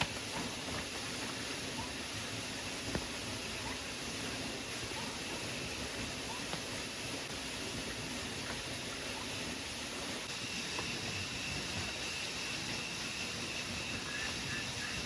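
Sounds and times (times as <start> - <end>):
faint repeated chirping: 0.0 - 15.0
heavy rain hissing: 0.0 - 15.0.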